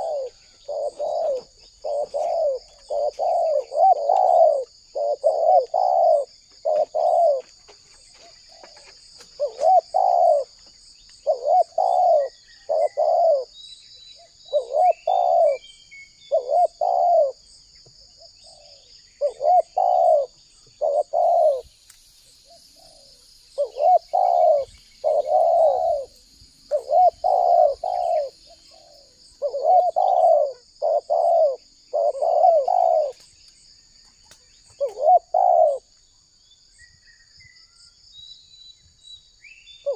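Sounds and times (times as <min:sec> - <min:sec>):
dove cooing: 0:00.0 - 0:13.6, 0:14.2 - 0:15.6, 0:16.2 - 0:21.7, 0:22.4 - 0:33.2, 0:34.7 - 0:35.9
high insect trill: 0:00.0 - 0:39.9.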